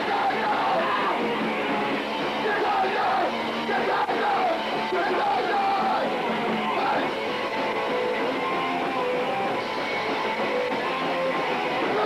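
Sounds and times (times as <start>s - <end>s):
punk band playing live: 0.0s - 12.0s
strummed electric guitar: 0.0s - 12.0s.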